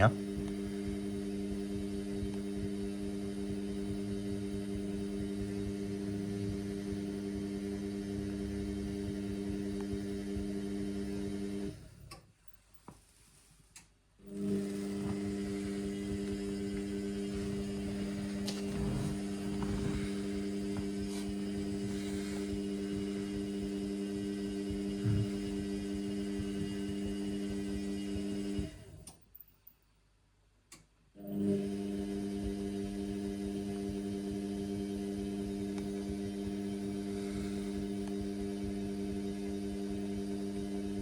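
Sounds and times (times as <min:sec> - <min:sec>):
washing machine motor humming: 0:00.0 - 0:12.2, 0:14.2 - 0:29.1, 0:31.2 - 0:41.0.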